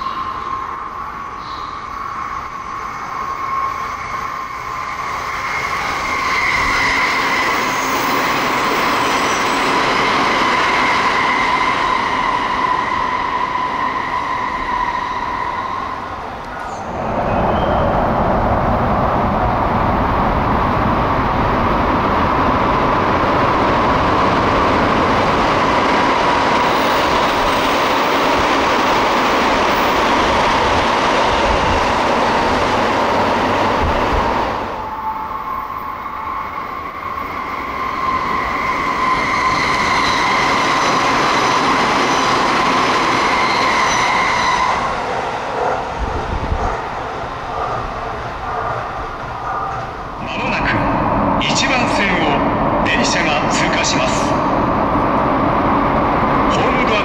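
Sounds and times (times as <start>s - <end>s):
electric train high whine: 0.0s - 57.0s
train wheels rushing: 0.0s - 57.0s.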